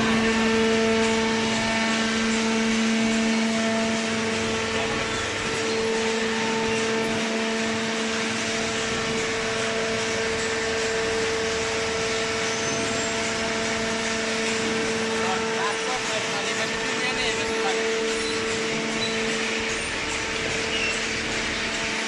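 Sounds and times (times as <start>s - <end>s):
hydraulic baler humming: 0.0s - 22.0s.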